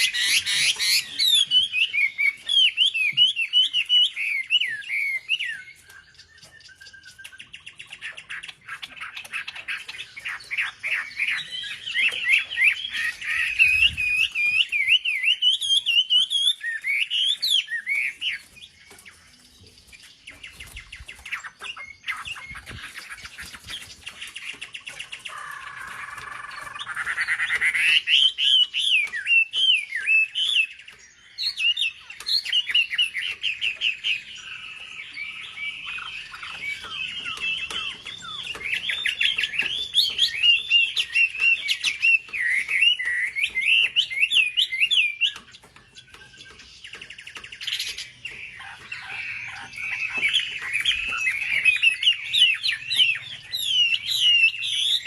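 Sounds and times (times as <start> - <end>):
songbird chirps and trills: 0.0 - 55.0.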